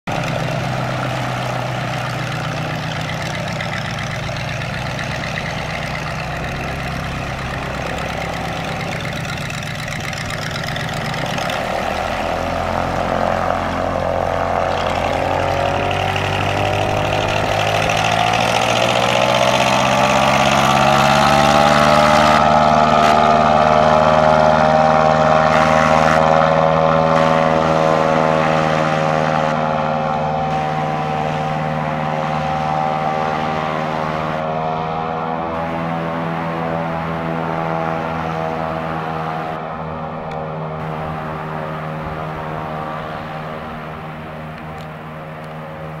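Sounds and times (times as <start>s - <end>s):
airboat engine and propeller: 0.0s - 46.0s.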